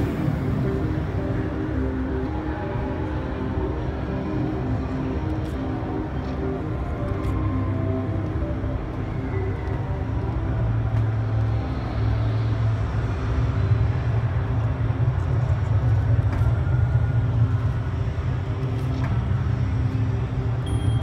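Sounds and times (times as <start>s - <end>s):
background music with deep bass: 0.0s - 21.0s
busy hall crowd noise: 0.0s - 21.0s.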